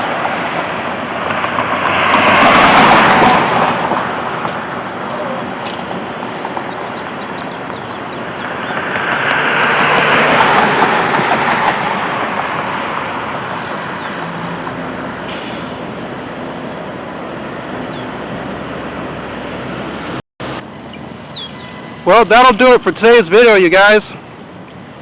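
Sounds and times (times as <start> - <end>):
heavy vehicle passing: 0.0 - 25.0
traffic rumble: 0.0 - 25.0.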